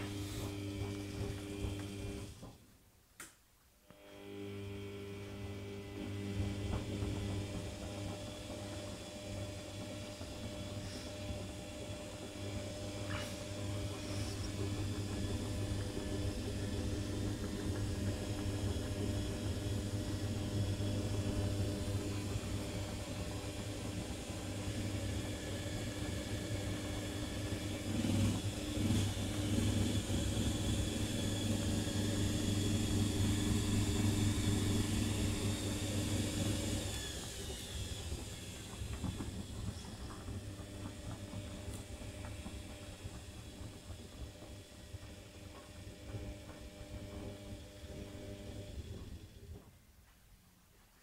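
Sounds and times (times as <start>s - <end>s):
washing machine motor humming: 0.0s - 2.7s, 4.0s - 50.0s.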